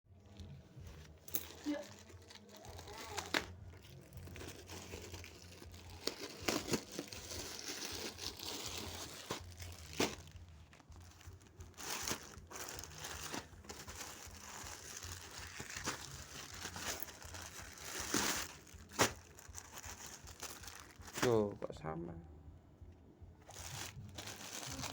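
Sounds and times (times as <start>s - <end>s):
plastic packaging crinkling: 0.3s - 21.4s, 23.4s - 24.9s.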